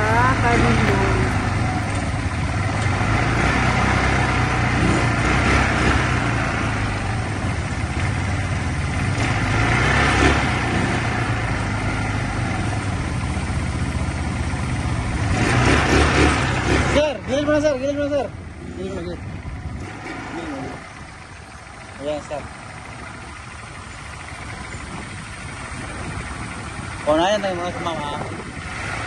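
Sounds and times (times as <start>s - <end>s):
quad bike engines droning: 0.0s - 29.0s
road and wind noise: 0.0s - 29.0s.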